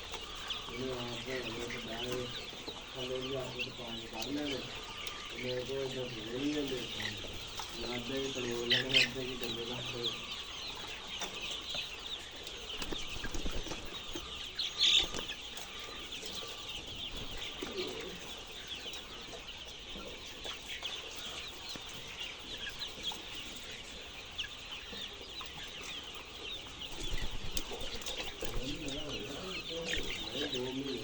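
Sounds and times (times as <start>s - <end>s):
young chicks peeping: 0.0s - 31.0s.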